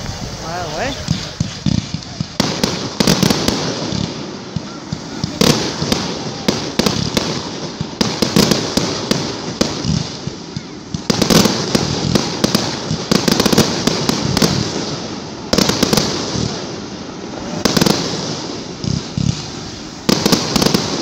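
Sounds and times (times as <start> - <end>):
crackle of sparks: 0.0 - 21.0
firework shells bursting: 0.0 - 21.0.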